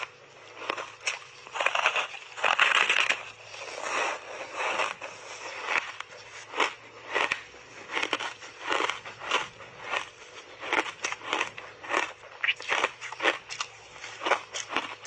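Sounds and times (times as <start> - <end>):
teeth crunching ice: 0.0 - 15.0.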